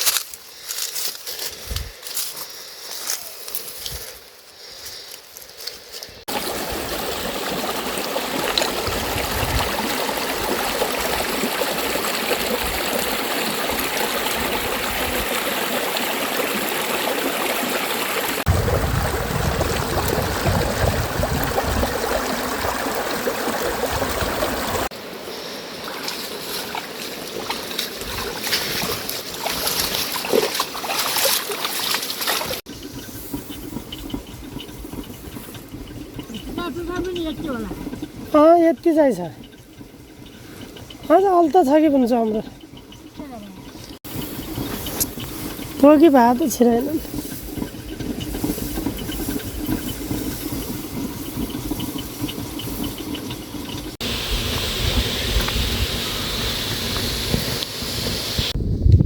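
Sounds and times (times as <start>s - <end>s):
running splashing water: 6.2s - 58.6s
water patters: 6.2s - 58.6s.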